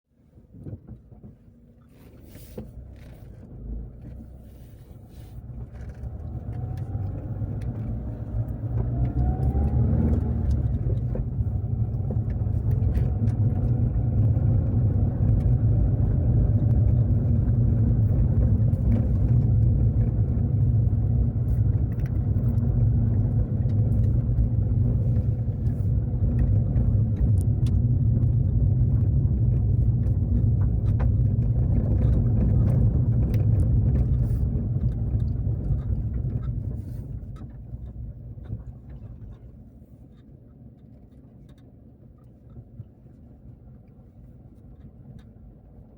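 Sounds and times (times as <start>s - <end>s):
car engine accelerating: 1.9s - 39.6s.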